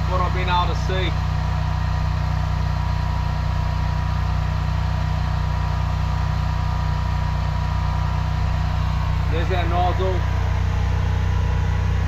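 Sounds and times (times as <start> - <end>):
drain jetter engine running: 0.0 - 12.0
thin steady whine: 0.0 - 12.0.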